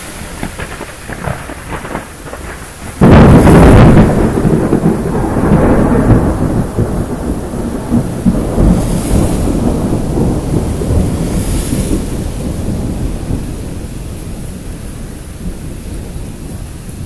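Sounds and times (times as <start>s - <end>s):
steady rain: 0.0s - 17.0s
thunderclap rolling into rumble: 0.0s - 17.0s.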